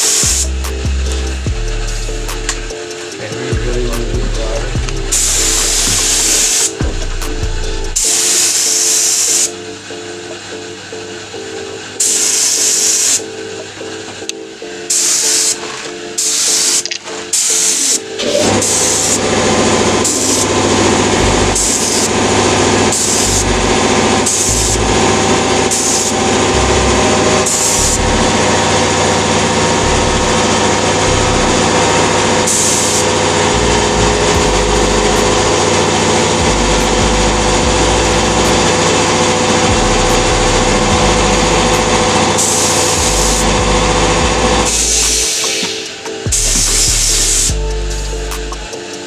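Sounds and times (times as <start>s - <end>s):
spray gun hissing: 0.0s - 0.6s, 1.2s - 7.2s, 7.9s - 9.5s, 12.0s - 13.2s, 14.9s - 15.6s, 16.2s - 48.6s
background music: 0.0s - 49.0s.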